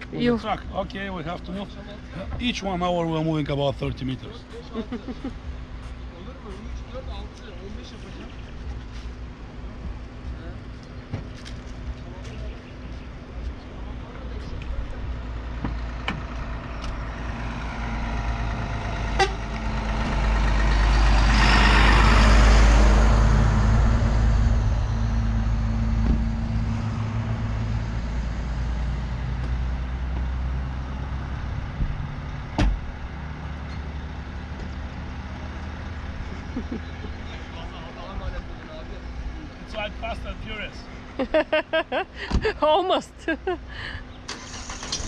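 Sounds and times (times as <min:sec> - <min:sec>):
vehicle engines idling: 0:00.0 - 0:45.0.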